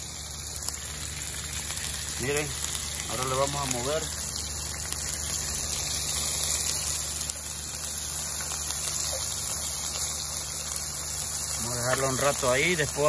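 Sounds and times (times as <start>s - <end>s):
constant low hum: 0.0s - 13.0s
vegetables sizzling in oil: 0.0s - 13.0s.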